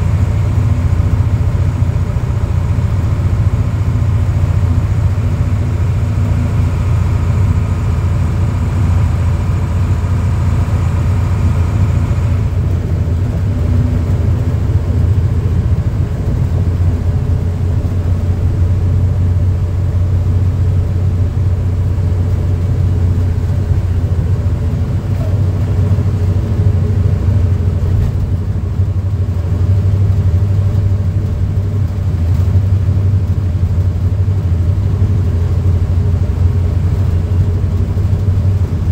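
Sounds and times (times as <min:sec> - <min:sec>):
high engine whine: 0:00.0 - 0:38.9
truck engine drone: 0:00.0 - 0:38.9.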